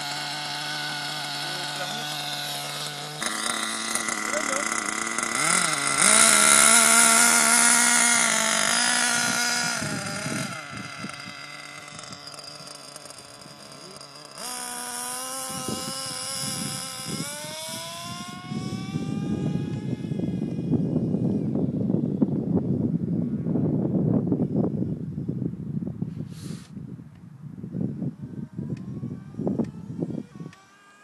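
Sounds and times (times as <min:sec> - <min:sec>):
nitro engine revving: 0:00.0 - 0:23.8, 0:28.1 - 0:31.0.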